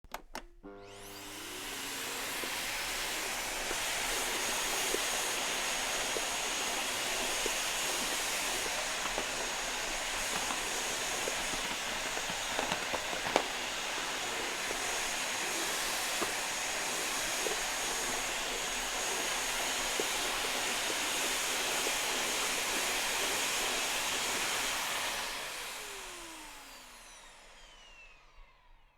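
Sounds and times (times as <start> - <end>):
vacuum cleaner running: 0.6 - 28.9.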